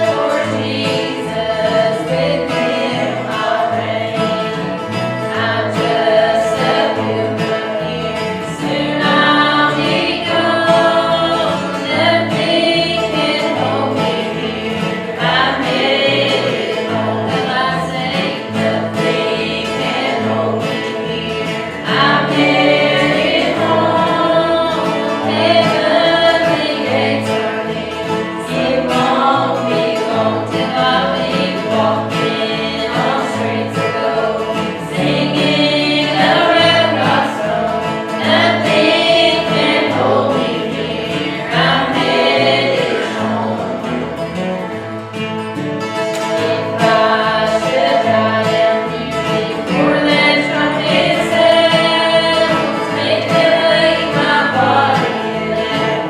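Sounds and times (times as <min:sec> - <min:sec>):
gospel singing by several voices: 0:00.0 - 0:44.9, 0:46.1 - 0:56.0
instrumental accompaniment with bass: 0:00.0 - 0:56.0.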